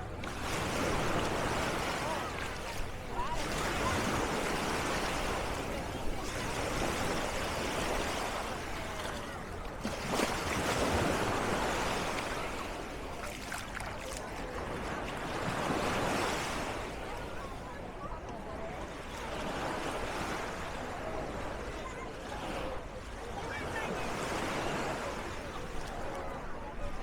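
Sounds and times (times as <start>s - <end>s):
sea waves washing onto beach: 0.0s - 27.0s.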